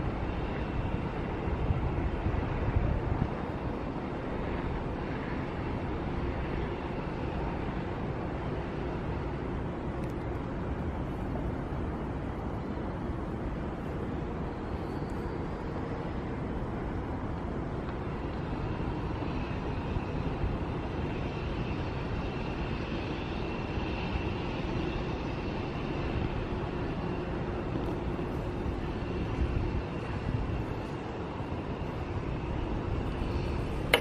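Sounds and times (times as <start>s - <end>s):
chairlift rumble and hiss: 0.0s - 34.0s
faint high whine: 0.0s - 34.0s.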